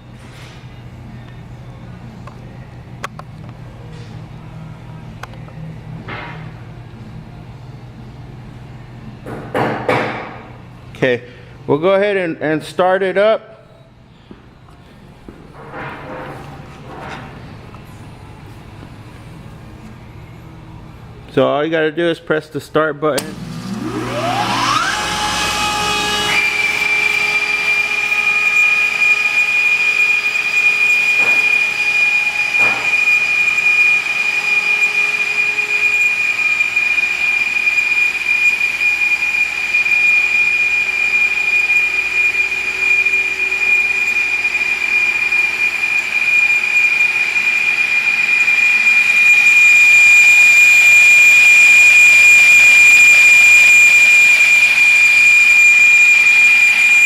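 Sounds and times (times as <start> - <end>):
air compressor whining: 0.0 - 12.1, 13.5 - 21.6, 23.2 - 57.0.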